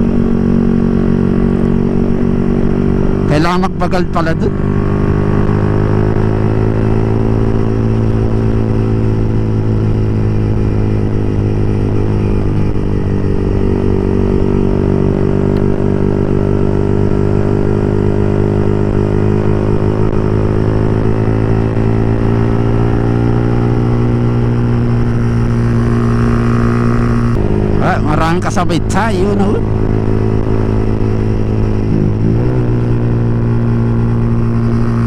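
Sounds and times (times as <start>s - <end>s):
motorcycle engine running loud: 0.0s - 35.0s.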